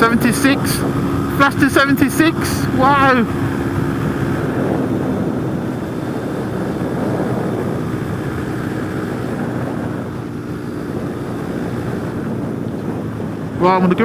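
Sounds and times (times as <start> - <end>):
motorcycle engine running flat out: 0.0 - 14.0
wind rushing over microphone: 0.0 - 14.0.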